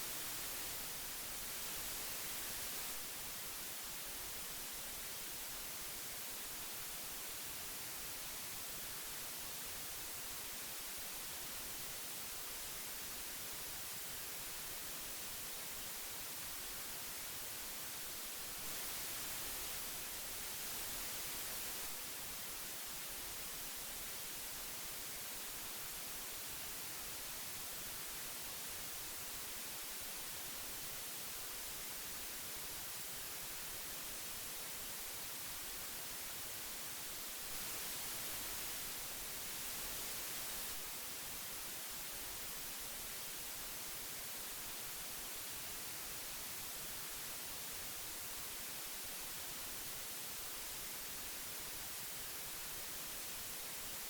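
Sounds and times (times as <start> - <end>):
tape hiss: 0.0 - 54.0.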